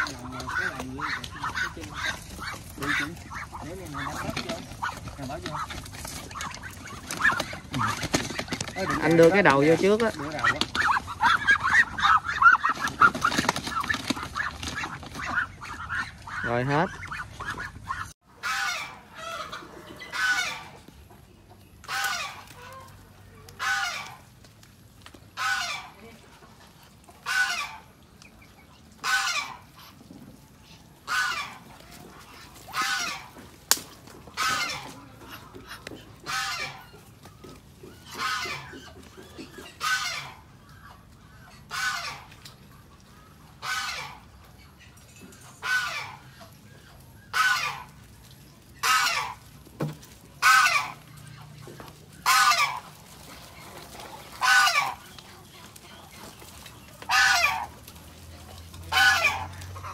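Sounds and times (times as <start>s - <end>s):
fowl calling: 0.0s - 21.2s, 21.8s - 24.4s, 25.3s - 58.0s, 58.7s - 59.9s.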